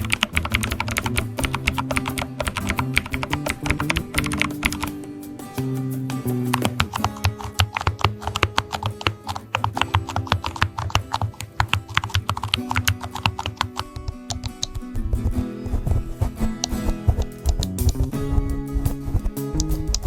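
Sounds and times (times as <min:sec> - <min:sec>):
rapid keyboard typing: 0:00.0 - 0:05.0, 0:06.5 - 0:20.0
background music with held notes: 0:00.0 - 0:20.0.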